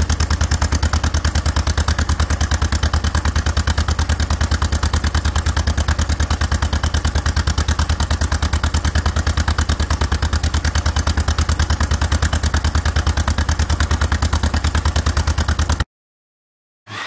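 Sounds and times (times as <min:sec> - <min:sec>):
tractor engine idling: 0:00.0 - 0:15.8.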